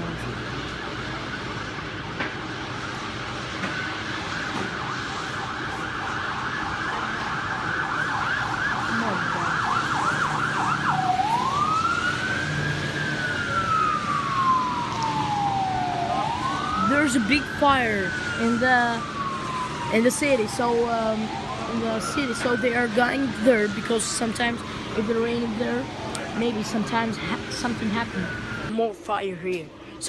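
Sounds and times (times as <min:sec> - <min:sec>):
emergency siren yelping and wailing: 0:00.0 - 0:28.8.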